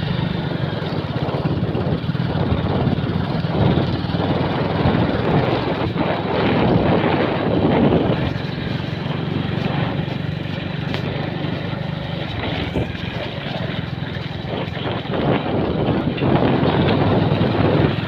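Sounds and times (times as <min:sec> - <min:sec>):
motorcycle engine running: 0:00.0 - 0:18.0
wind on microphone: 0:00.0 - 0:18.0.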